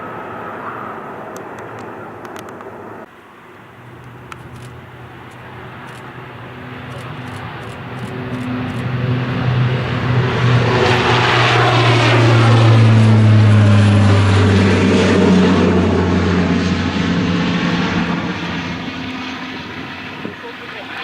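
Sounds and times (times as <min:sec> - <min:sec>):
aircraft flying overhead: 0:00.0 - 0:21.0.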